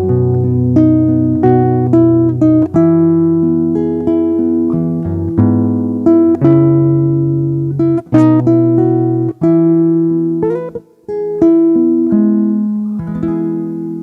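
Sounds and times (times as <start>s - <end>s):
plucked guitar chords: 0.0s - 14.0s.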